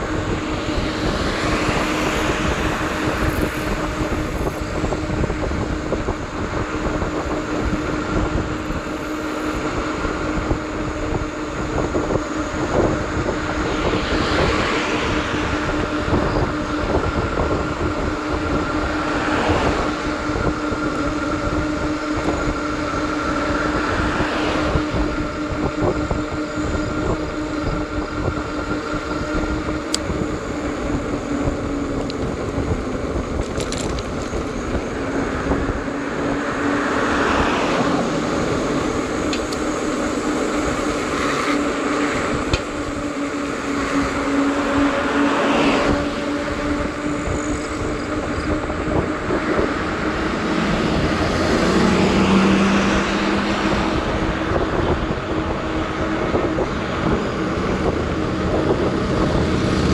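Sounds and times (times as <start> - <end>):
electric bike motor whine: 0.0 - 59.9
wind rumbling on microphone: 0.0 - 59.9.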